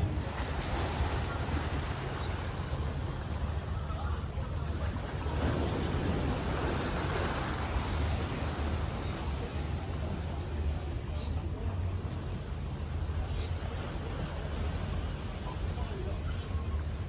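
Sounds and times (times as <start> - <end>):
calm sea washing ashore: 0.0 - 17.0.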